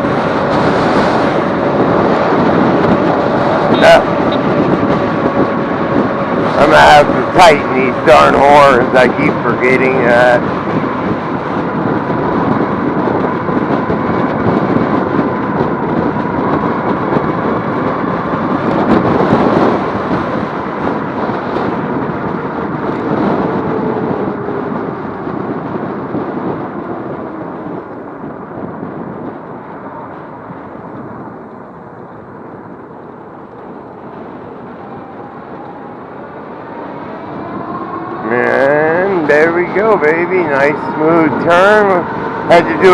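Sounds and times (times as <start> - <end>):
tyre and road noise: 0.0 - 42.9
wind rushing over microphone: 0.0 - 42.9.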